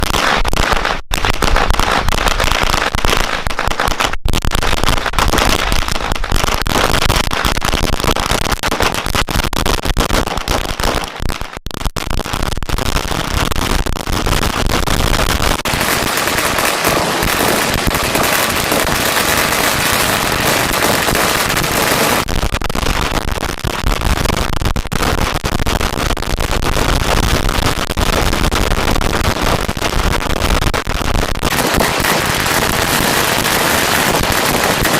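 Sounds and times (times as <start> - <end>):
firecrackers banging and crackling: 0.0 - 34.9.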